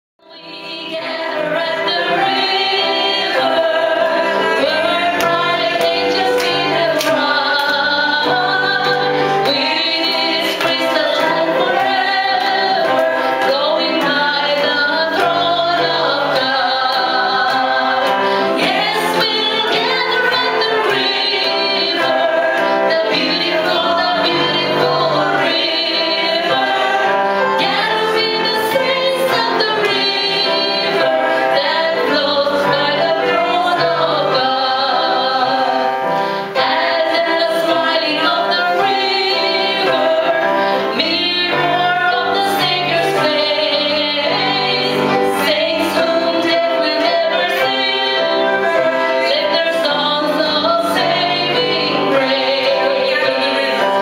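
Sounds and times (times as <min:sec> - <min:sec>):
women singing a hymn: 0:00.2 - 0:54.0.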